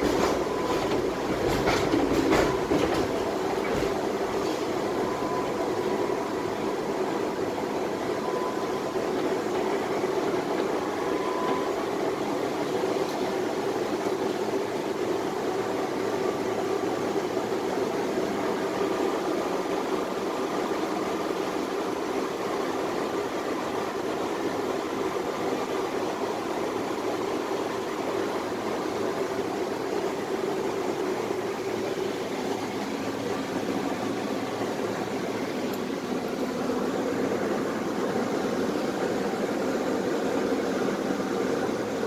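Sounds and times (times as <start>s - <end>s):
tram interior hum and rumble: 0.0s - 42.0s.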